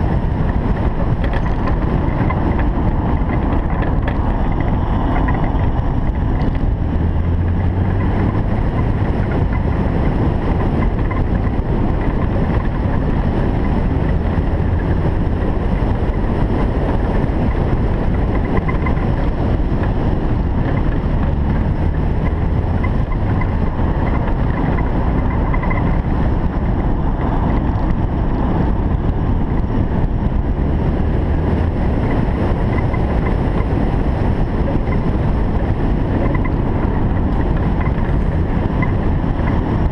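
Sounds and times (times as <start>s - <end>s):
car engine drone: 0.0s - 39.9s
road and wind noise: 0.0s - 39.9s.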